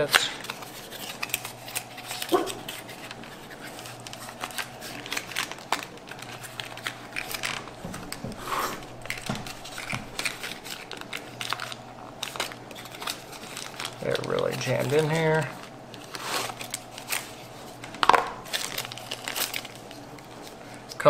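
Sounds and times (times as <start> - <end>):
cardboard packaging crinkling: 0.0 - 21.0.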